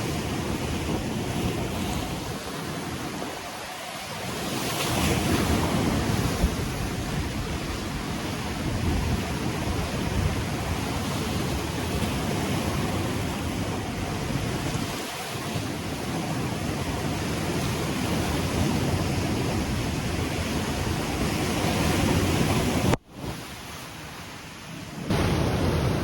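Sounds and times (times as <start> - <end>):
ocean waves breaking on shore: 0.0 - 26.0
wind on microphone: 0.0 - 26.0.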